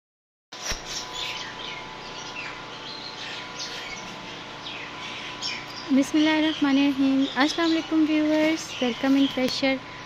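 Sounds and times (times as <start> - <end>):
generator humming: 0.6 - 10.0
small birds chirping: 0.6 - 10.0.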